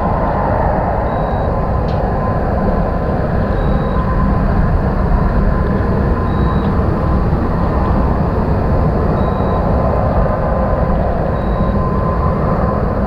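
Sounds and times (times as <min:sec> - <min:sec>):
constant hum: 0:00.0 - 0:13.0
industrial rumble: 0:00.0 - 0:13.0.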